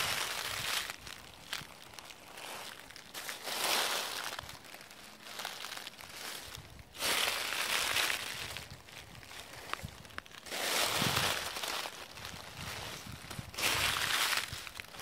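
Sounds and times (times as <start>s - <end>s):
footsteps in dry leaves: 0.0s - 15.0s.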